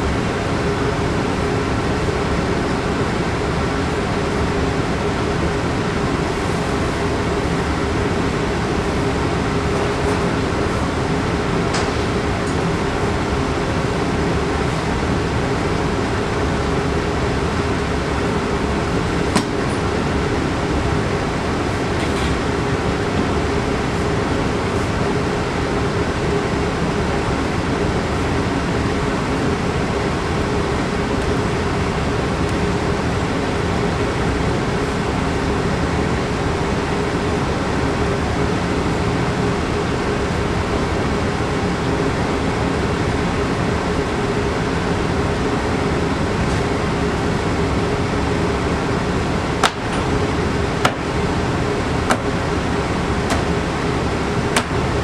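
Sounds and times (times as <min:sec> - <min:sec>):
room ventilation hum: 0:00.0 - 0:55.0.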